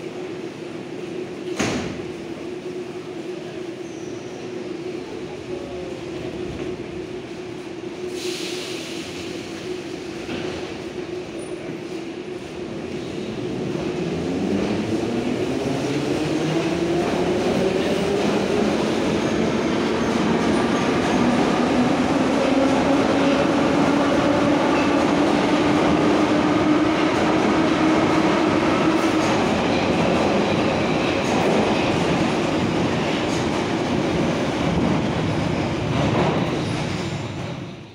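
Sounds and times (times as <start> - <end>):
train cars passing on rails: 0.0 - 37.9.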